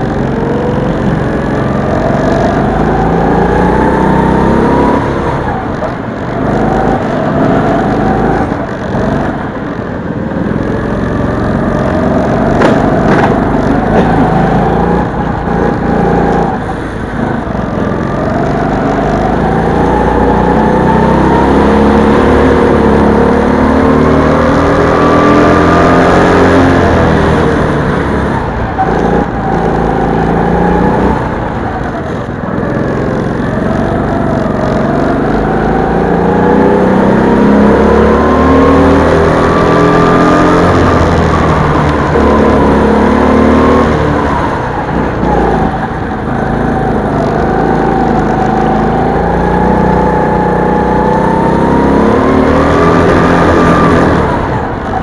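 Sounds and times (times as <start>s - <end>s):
go-kart motor revving: 0.0s - 55.0s.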